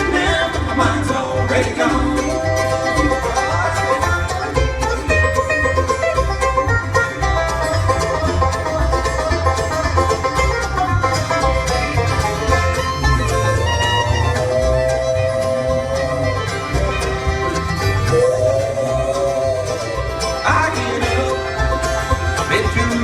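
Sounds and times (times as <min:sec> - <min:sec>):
guitar: 0:00.0 - 0:23.0
low bass line: 0:00.0 - 0:23.0
plucked banjo lead: 0:00.0 - 0:23.0.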